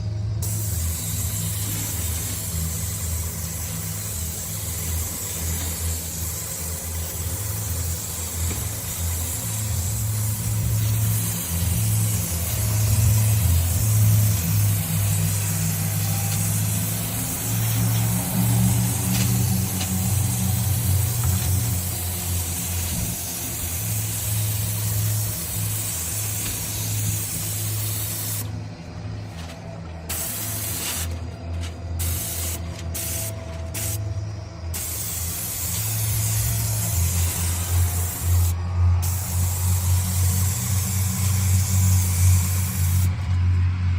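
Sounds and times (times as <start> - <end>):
low motor hum: 0.0 - 43.9
paint spray gun hissing: 0.4 - 28.6, 30.1 - 31.2, 32.0 - 43.2.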